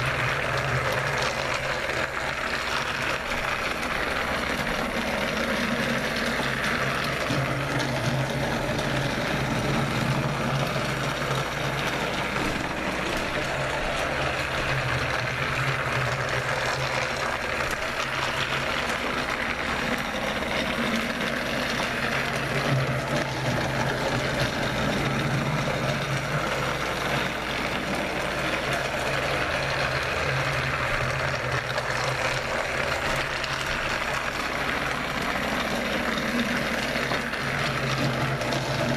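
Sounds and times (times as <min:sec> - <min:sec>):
toy train motor whirring: 0:00.0 - 0:38.9
wheels rattling on plastic track: 0:00.0 - 0:38.9.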